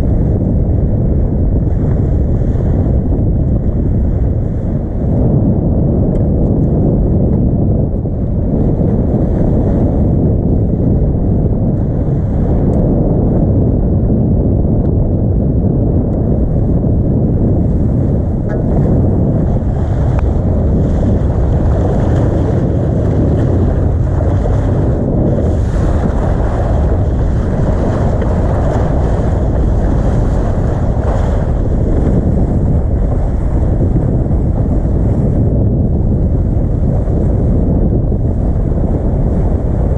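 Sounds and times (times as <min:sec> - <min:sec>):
sea water rushing along hull: 0:00.0 - 0:39.9
wind buffeting microphone: 0:00.0 - 0:39.9.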